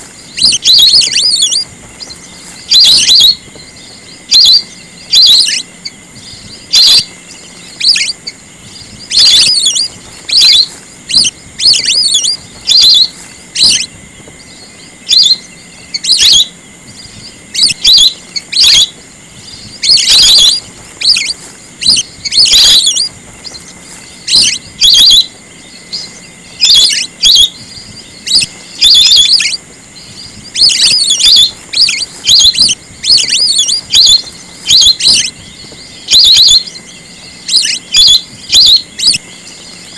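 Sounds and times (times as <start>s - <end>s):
ducks whistling: 0.0s - 39.9s.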